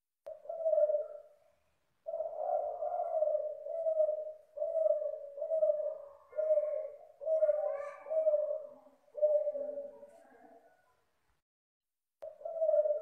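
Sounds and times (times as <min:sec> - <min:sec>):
dove cooing: 0:00.3 - 0:10.8, 0:12.2 - 0:13.0.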